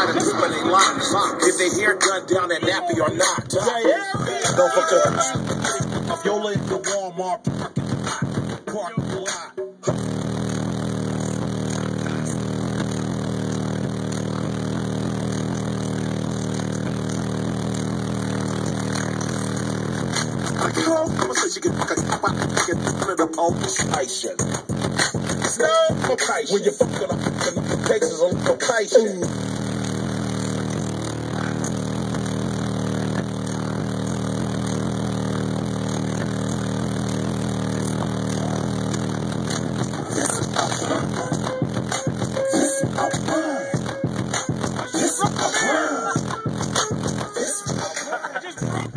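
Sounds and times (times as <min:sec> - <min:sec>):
subwoofers buzzing bass drone: 0:00.0 - 0:09.3, 0:09.9 - 0:48.0, 0:48.6 - 0:48.9.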